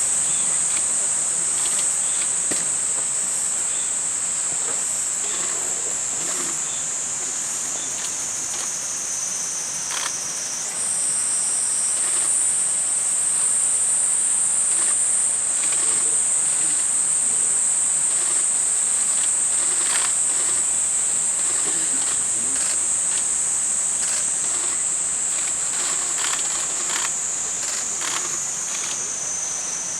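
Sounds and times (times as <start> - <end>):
high-pitched insect drone: 0.0 - 29.9.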